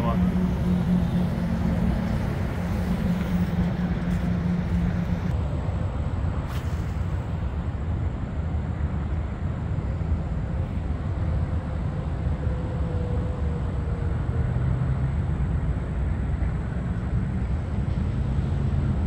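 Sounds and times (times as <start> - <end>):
highway traffic rumble: 0.0 - 19.0
low hum: 0.0 - 19.0.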